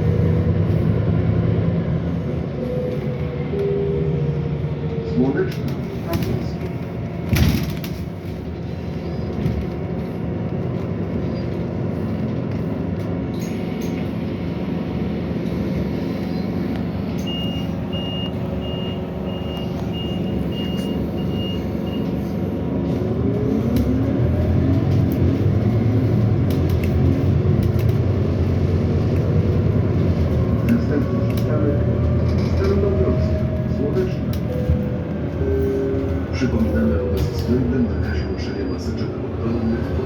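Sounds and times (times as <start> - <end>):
bus engine idling and revving: 0.0 - 40.0.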